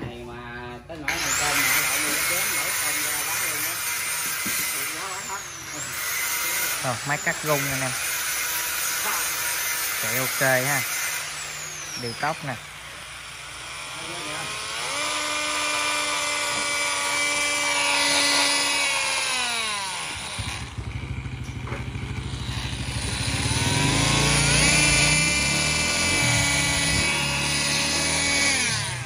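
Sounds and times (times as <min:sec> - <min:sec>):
oscillating multi-tool whine: 0:01.0 - 0:29.0.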